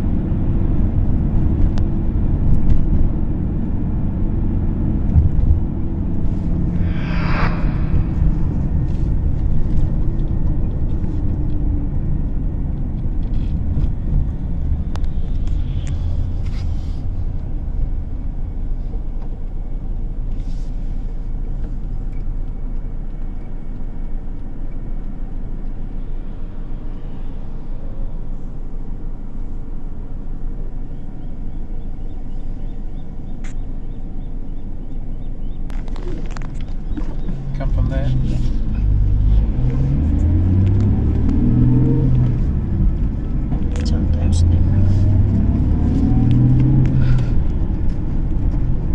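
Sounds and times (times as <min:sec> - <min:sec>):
car engine rumble: 0:00.0 - 0:48.9
tyre road noise: 0:00.0 - 0:48.9.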